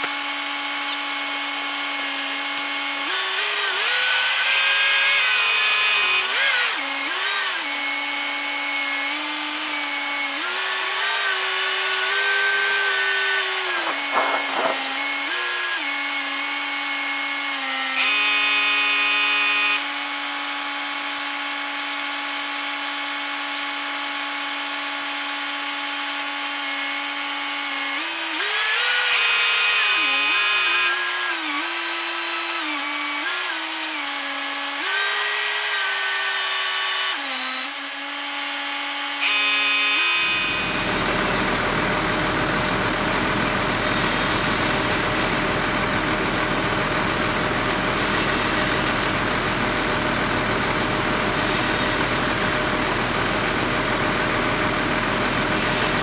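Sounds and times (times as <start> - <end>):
truck crane engine and hydraulics whine: 0.0 - 38.0, 39.1 - 56.0.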